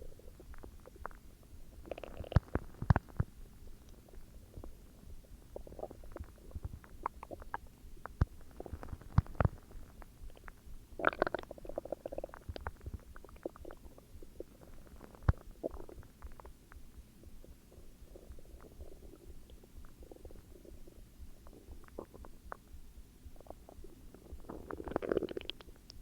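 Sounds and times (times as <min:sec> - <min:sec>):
stomach growling and gurgling: 0:00.0 - 0:16.6, 0:17.3 - 0:22.7, 0:23.4 - 0:25.9.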